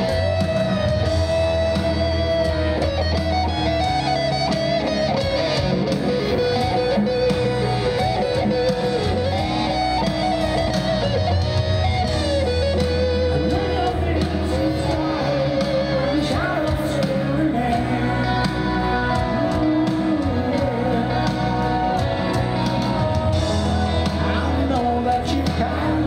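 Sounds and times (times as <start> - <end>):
electric guitar lead melody: 0.0 - 26.0
live rock band playing ballad: 0.0 - 26.0.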